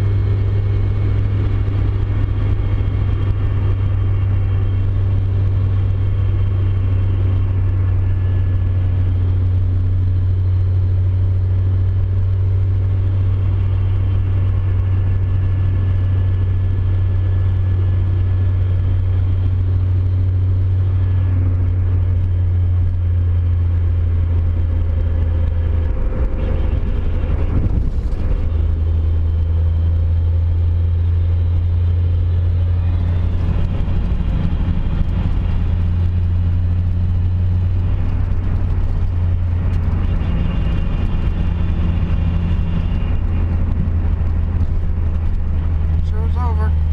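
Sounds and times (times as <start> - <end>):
car drivetrain droning: 0.0 - 46.9.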